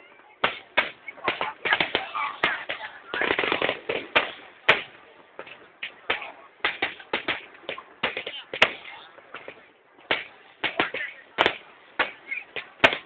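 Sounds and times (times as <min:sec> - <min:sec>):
fireworks bangs: 0:00.4 - 0:13.0.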